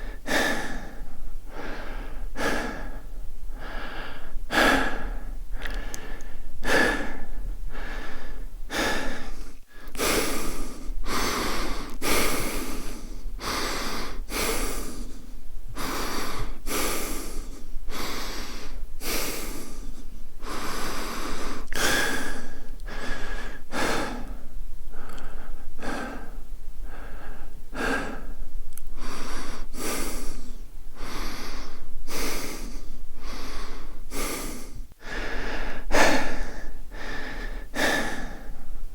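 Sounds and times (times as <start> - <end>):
man breathing heavily: 0.0 - 38.9.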